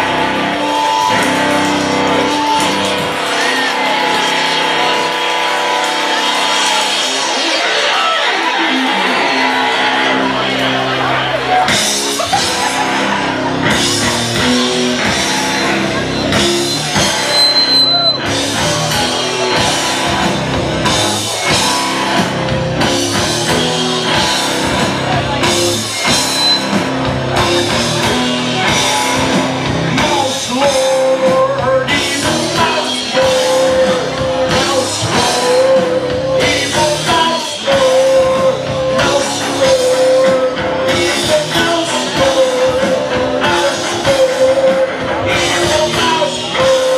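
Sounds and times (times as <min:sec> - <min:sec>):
loud rock music: 0:00.0 - 0:46.9
steady drum beat: 0:00.0 - 0:46.9
person singing: 0:06.1 - 0:46.9.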